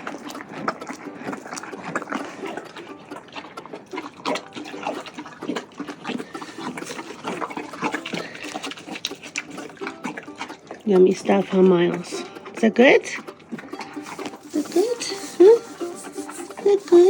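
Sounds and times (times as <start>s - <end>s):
horse chewing and slurping: 0.0s - 17.0s.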